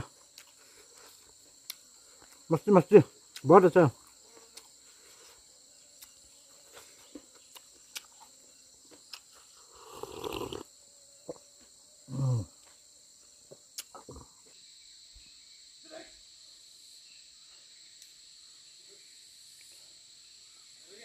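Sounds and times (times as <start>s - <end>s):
crickets and insects chirping: 0.0s - 21.0s.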